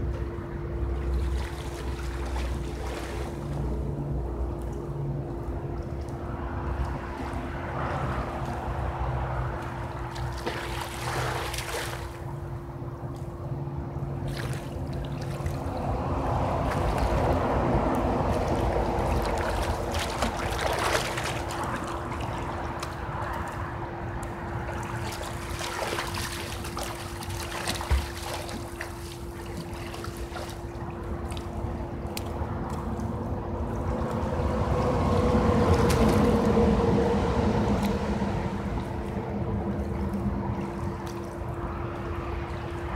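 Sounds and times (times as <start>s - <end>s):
pool water lapping and splashing: 0.0s - 42.9s
steady hum: 0.0s - 42.9s.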